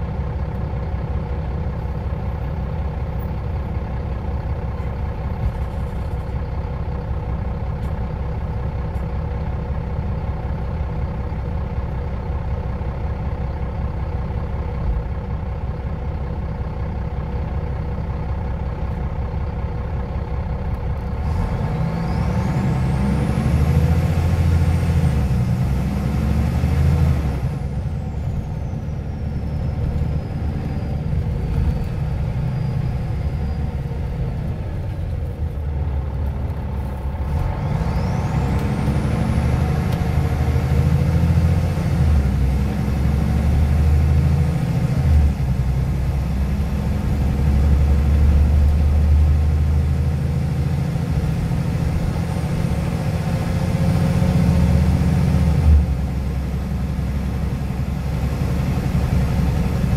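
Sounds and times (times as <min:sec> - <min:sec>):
bus engine humming: 0:00.0 - 0:59.9.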